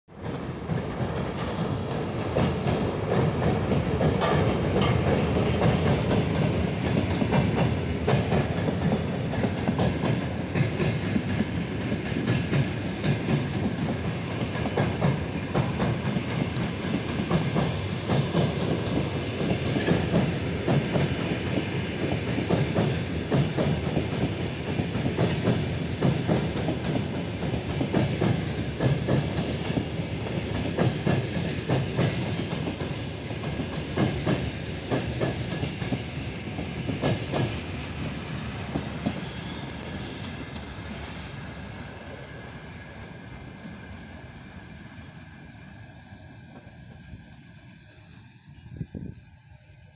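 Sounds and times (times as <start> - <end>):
train wheels clattering over rail joints: 0.1 - 44.3.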